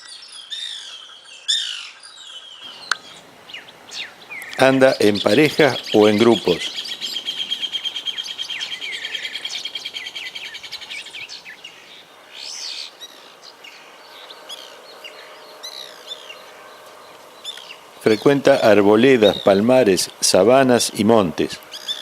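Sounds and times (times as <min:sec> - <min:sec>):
down-slurred bird chirps: 0:00.0 - 0:20.3.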